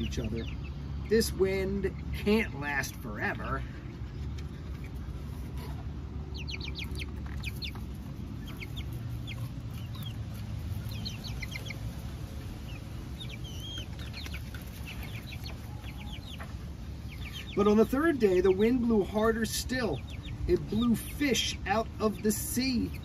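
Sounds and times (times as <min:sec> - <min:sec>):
hens clucking: 0:00.0 - 0:23.0
low background rumble: 0:00.0 - 0:23.0.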